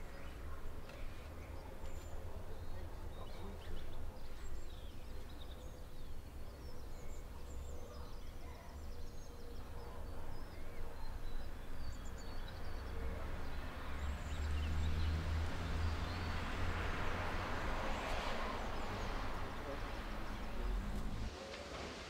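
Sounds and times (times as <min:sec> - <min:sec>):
small birds chirping: 0:00.0 - 0:21.3.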